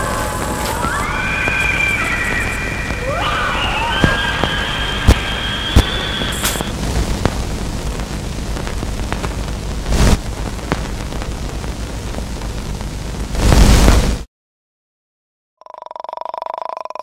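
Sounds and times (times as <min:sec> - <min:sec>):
hiss and crackle: 0:00.0 - 0:14.3
rush of noise: 0:00.0 - 0:14.3.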